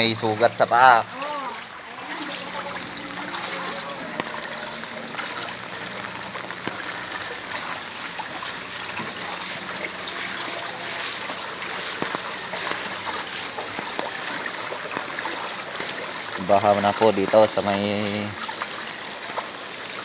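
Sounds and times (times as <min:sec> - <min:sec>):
rain falling onto water: 0:00.0 - 0:20.0.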